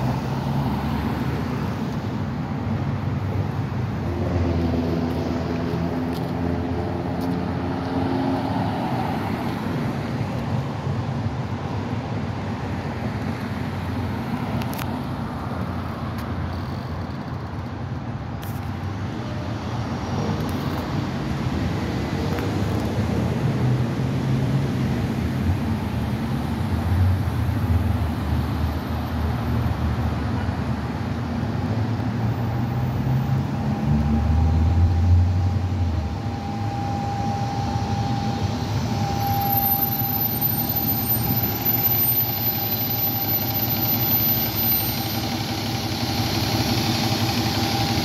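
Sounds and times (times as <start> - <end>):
bus diesel engine hum: 0.0 - 48.0
cars driving past: 0.0 - 48.0.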